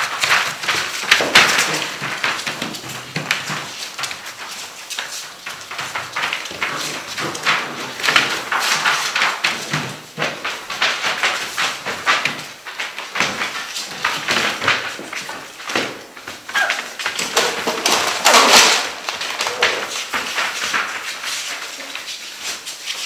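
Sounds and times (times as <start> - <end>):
puppies scuffling and scratching: 0.0 - 23.0.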